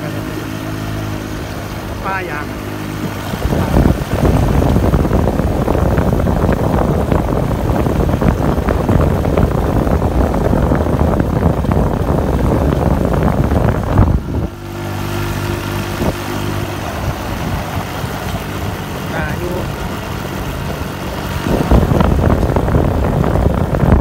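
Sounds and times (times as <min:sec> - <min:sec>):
loud rough rushing noise: 0:00.0 - 0:24.0
vehicle engine running: 0:00.0 - 0:24.0.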